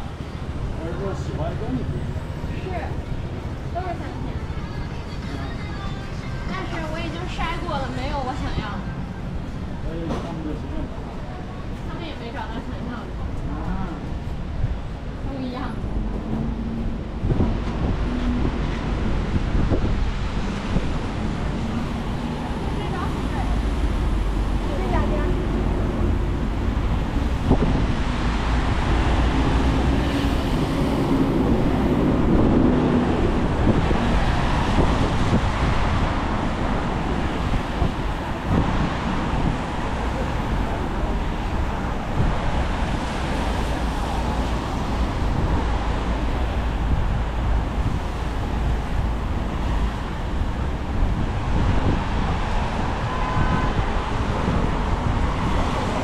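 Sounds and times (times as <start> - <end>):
cars passing on wet road: 0.0 - 4.4, 6.1 - 56.0
wind rumbling on microphone: 0.0 - 56.0.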